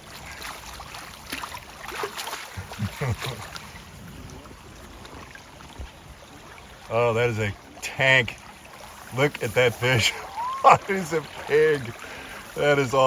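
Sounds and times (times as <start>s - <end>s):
river water running: 0.0s - 13.0s
water splashing: 0.0s - 13.0s.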